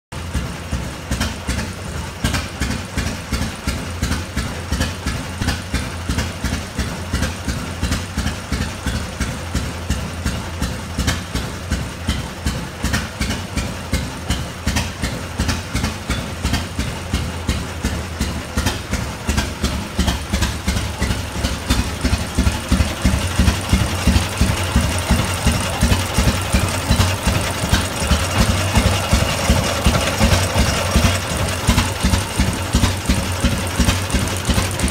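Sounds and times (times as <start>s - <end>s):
tractor engine idling: 0.1s - 34.9s.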